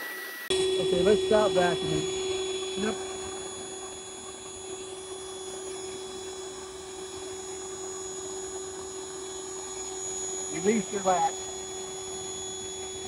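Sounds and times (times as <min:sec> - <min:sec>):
shop vacuum running: 0:00.5 - 0:13.0.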